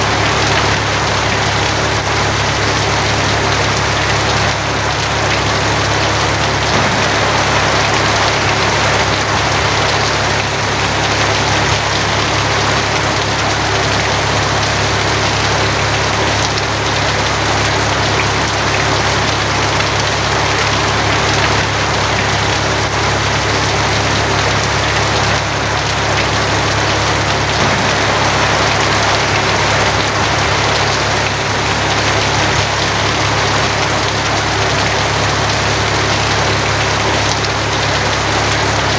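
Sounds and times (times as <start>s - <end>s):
constant low drone: 0.0s - 19.4s, 23.6s - 37.4s
heavy rain on a tin roof: 0.0s - 38.9s.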